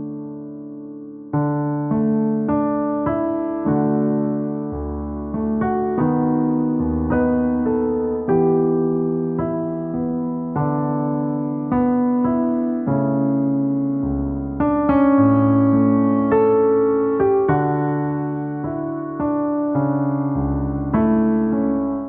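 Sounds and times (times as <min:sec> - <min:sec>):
gentle slow piano music: 0:00.0 - 0:22.0.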